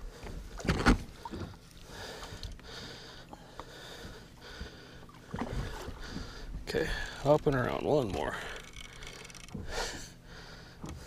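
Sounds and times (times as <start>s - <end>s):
water sloshing: 0.1s - 11.0s.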